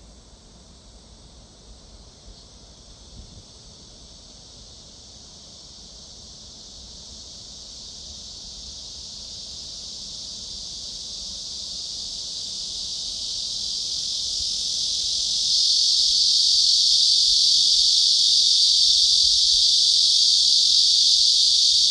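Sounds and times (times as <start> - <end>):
high-pitched insect chorus: 0.0 - 21.9.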